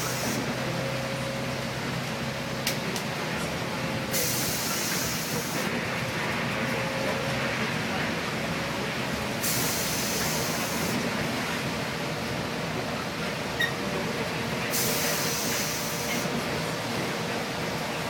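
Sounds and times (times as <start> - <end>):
bus engine and tyres rumbling: 0.0 - 18.0.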